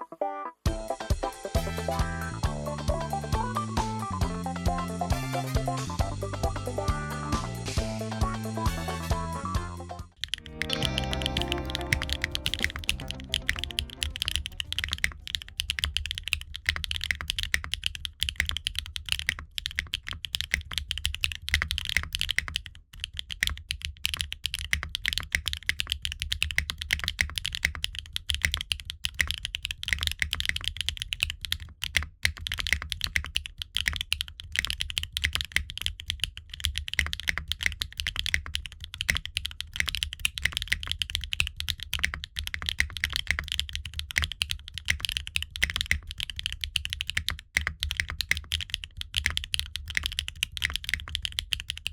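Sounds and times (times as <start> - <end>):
fast mechanical keyboard typing: 10.2 - 51.9.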